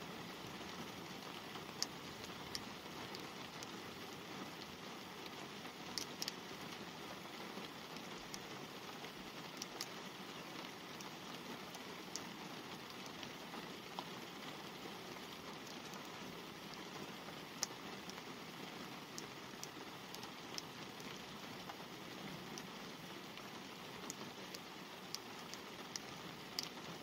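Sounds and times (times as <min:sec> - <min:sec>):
light rain on car: 0:00.0 - 0:27.0
raindrops ticking: 0:00.2 - 0:27.0.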